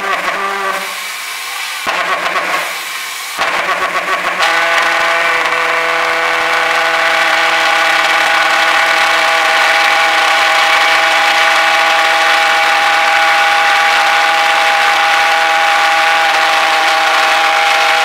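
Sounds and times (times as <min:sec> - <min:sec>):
pulse jet buzzing drone: 0:03.4 - 0:18.0.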